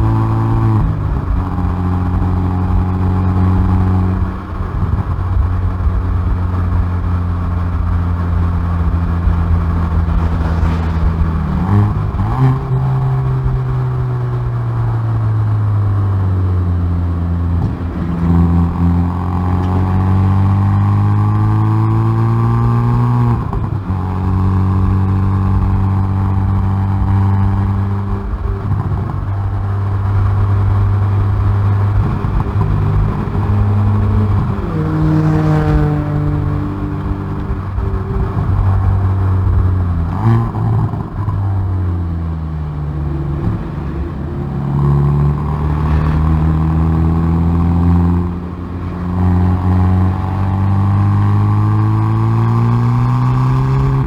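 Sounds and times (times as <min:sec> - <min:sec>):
car engine accelerating through exhaust: 0:00.0 - 0:54.0.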